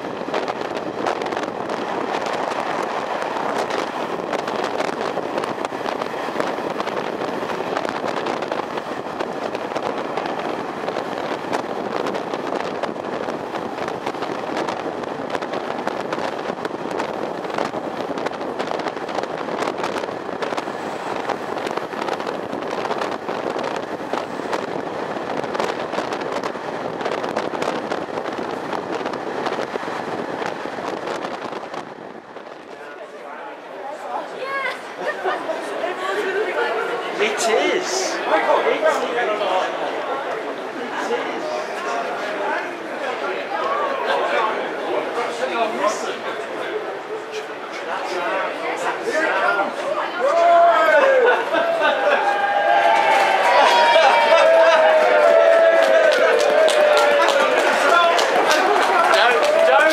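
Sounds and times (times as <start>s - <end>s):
train wheels and wind rushing: 0.0s - 59.9s.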